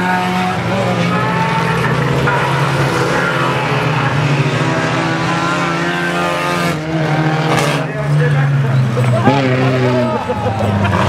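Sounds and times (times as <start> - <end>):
car engines racing: 0.0 - 11.0.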